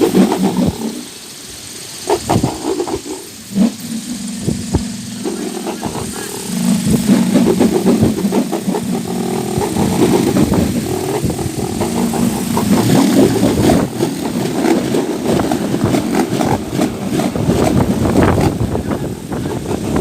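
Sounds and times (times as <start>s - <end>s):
propeller toy whirring in wind: 0.0s - 20.0s.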